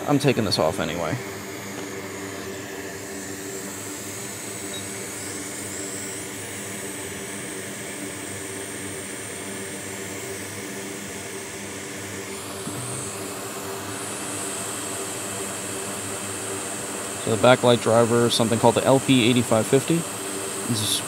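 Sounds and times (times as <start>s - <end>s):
hot air station blowing: 0.0s - 21.0s.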